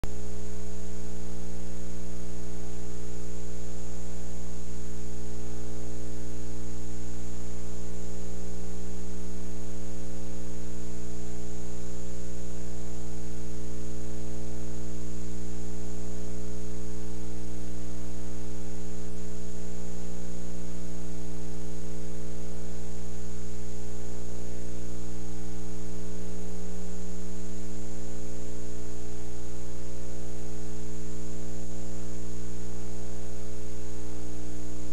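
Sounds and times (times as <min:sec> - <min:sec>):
electrical mains hum: 0:00.0 - 0:34.9
thin high whine: 0:00.0 - 0:34.9.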